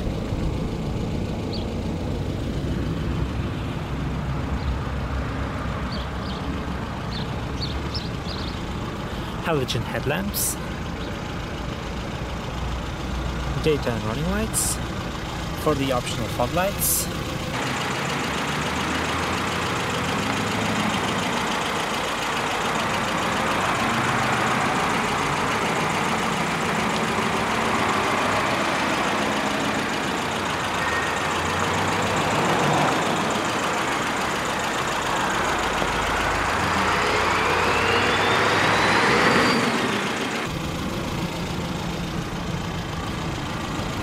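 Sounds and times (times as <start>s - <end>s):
rising engine whine: 0.0s - 9.4s, 10.6s - 44.0s
car engine idling: 0.0s - 38.9s, 39.7s - 44.0s.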